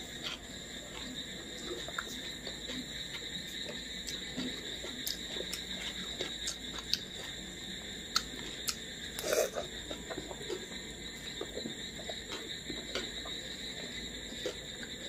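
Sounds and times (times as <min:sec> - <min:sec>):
chewing: 0:00.1 - 0:07.5, 0:08.1 - 0:15.0.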